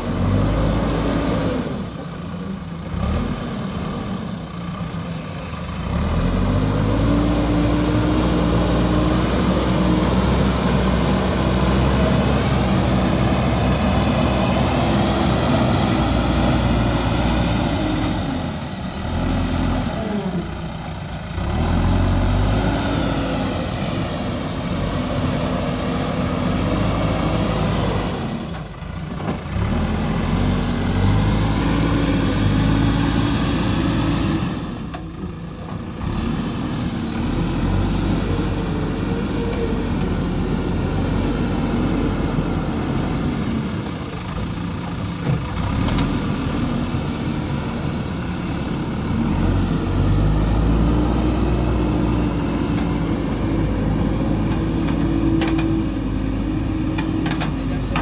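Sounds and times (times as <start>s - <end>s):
backhoe diesel engine working: 0.0s - 58.0s.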